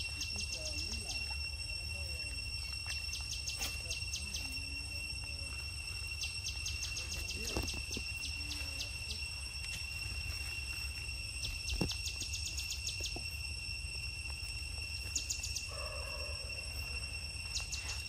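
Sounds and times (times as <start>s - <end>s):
crickets droning: 0.0s - 18.0s
low background hum: 0.0s - 18.0s
rapid chirping trills: 0.0s - 18.0s.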